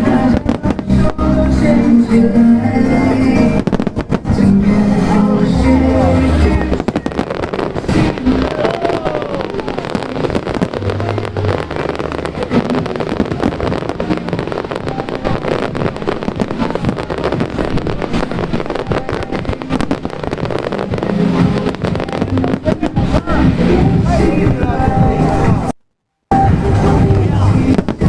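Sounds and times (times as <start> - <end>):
fireworks cracking and banging: 0.0 - 28.0.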